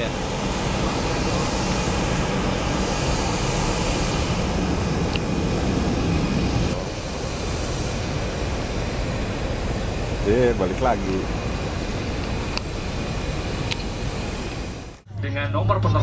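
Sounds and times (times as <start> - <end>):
jet engine rumble and hiss: 0.0 - 15.1.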